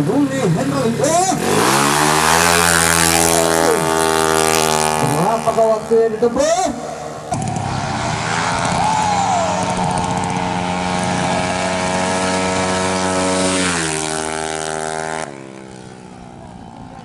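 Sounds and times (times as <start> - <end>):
scooter engine at full throttle: 0.0 - 17.0.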